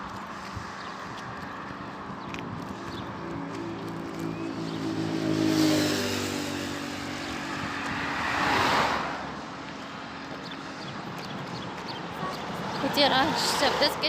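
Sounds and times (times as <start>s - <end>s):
road noise rushing: 0.0s - 14.0s
vehicle engine hum: 0.0s - 14.0s.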